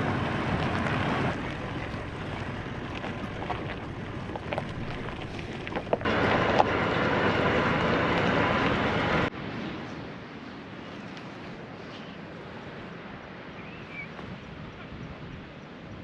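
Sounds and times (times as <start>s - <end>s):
vehicle road and wind noise: 0.0s - 16.0s.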